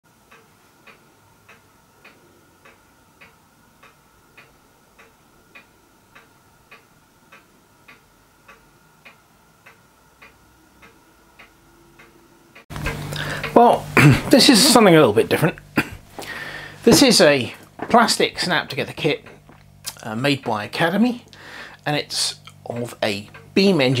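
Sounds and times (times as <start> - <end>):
faint regular ticking: 0.1 - 24.0
faint high hum: 0.2 - 24.0.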